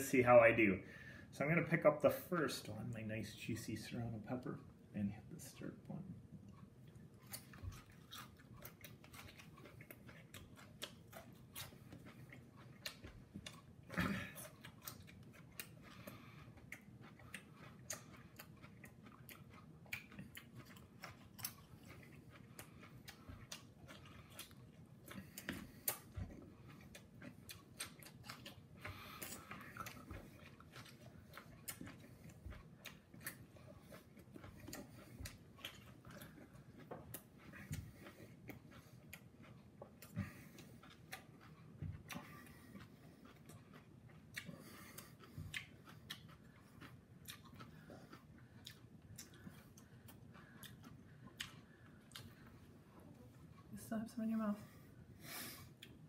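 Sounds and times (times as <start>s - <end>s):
person chewing wet crunches: 5.6s - 53.8s, 54.8s - 56.0s.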